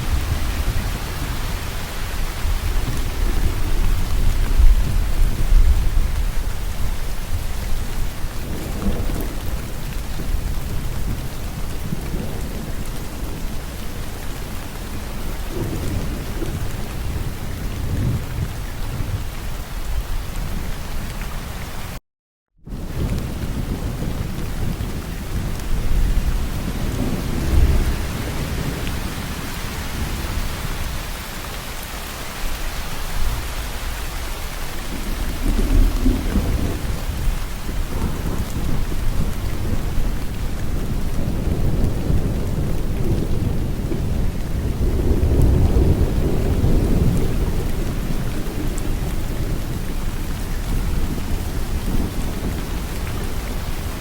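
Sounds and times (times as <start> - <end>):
rolling thunder: 0.0 - 19.4, 22.7 - 31.6, 33.1 - 54.0
heavy rain: 0.0 - 22.0, 22.7 - 54.0.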